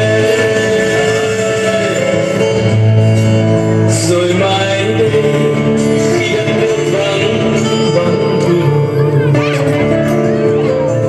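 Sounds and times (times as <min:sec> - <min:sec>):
song with singing voice: 0:00.0 - 0:11.0.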